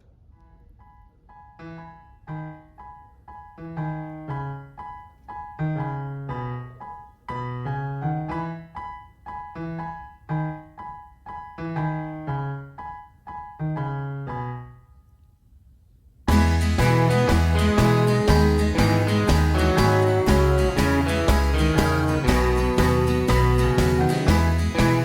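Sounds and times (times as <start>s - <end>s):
gentle piano music: 0.8s - 15.0s, 16.3s - 25.0s.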